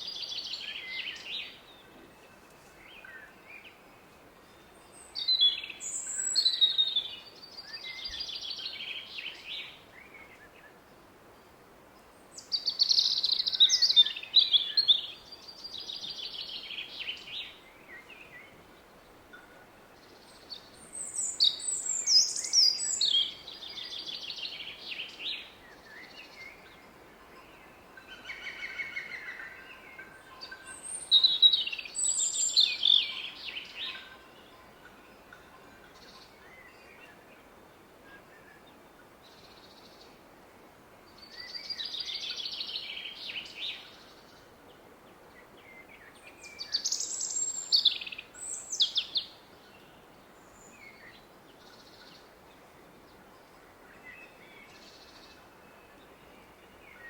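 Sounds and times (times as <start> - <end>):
songbirds singing: 0.0 - 40.3, 40.9 - 57.0.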